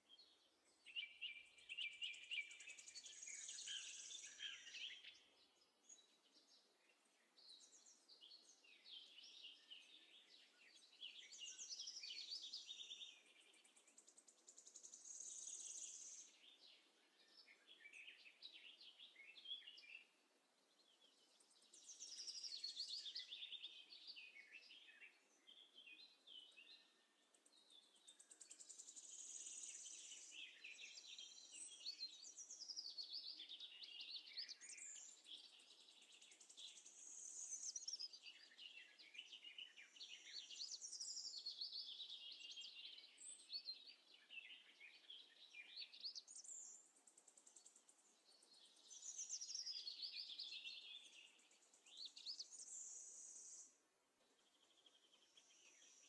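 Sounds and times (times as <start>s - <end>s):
faint birdsong chirps and trills: 0.0s - 56.0s.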